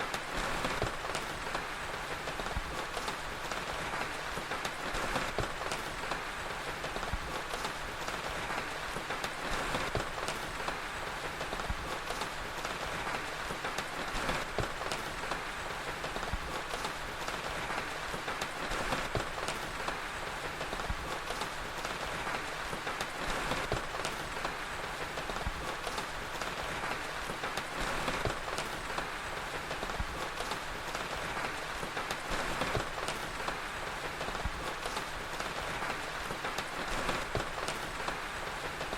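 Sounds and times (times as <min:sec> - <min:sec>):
steady rain falling: 0:00.0 - 0:38.9
wood fire crackling: 0:00.0 - 0:38.9.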